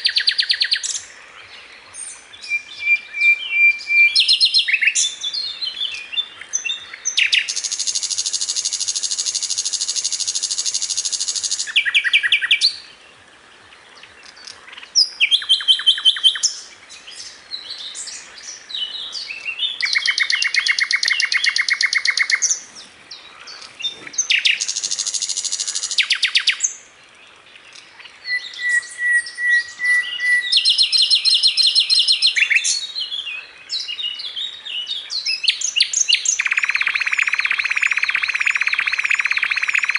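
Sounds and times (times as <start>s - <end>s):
bird chirps: 0.0s - 12.9s, 14.0s - 26.8s, 27.7s - 39.9s
bird singing trilled phrases: 0.0s - 13.0s, 13.9s - 26.9s, 27.5s - 39.9s.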